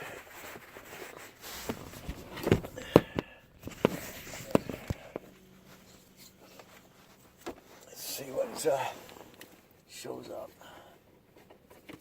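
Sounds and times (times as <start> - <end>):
faint steady hum: 0.1 - 12.0.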